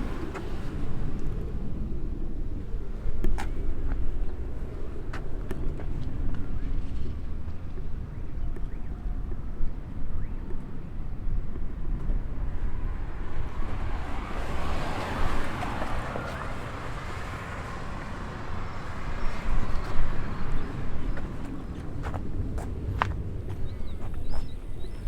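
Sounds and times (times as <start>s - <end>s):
passing car: 0.0s - 7.5s, 11.2s - 25.0s
wind buffeting microphone: 0.0s - 25.0s.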